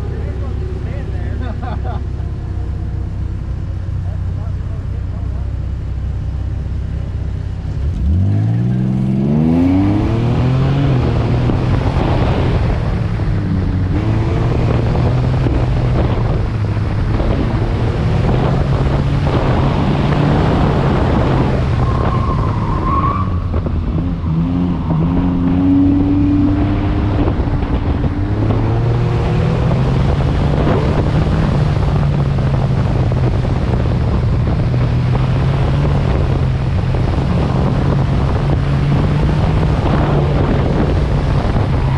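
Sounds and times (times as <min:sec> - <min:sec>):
loud car engine revving: 0:07.0 - 0:41.9.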